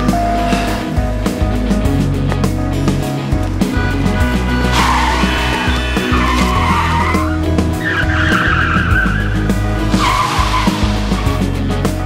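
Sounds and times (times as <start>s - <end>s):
car tyres screeching: 0.0s - 12.0s
dramatic background music: 0.0s - 12.0s.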